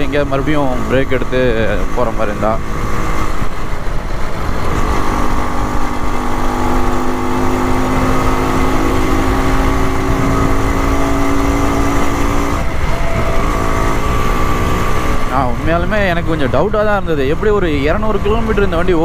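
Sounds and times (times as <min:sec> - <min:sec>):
two-stroke motorcycle engine cruising: 0:00.0 - 0:19.0
wind rumbling on microphone: 0:01.3 - 0:19.0.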